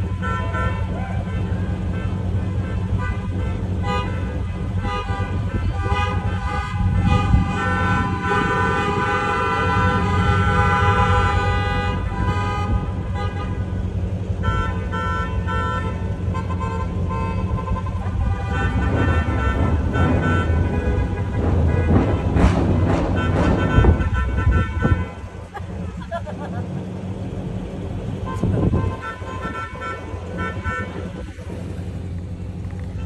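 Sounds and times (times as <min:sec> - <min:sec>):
car engines rumbling: 0:00.0 - 0:33.0
car horns honking: 0:00.0 - 0:33.0.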